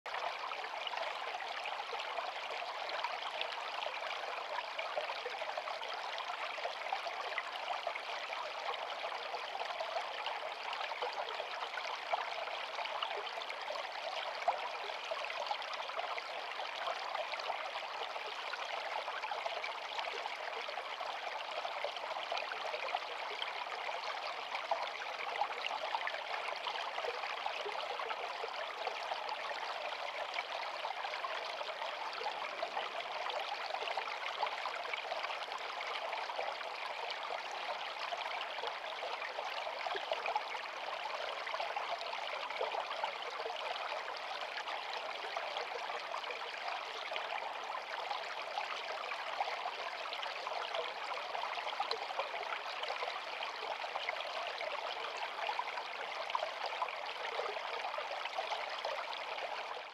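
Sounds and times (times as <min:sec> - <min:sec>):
stream trickling over stones: 0:00.1 - 0:59.9.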